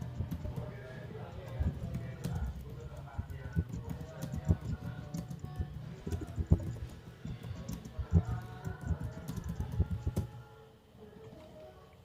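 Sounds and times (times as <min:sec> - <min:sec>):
muffled keyboard typing: 0:00.0 - 0:10.4.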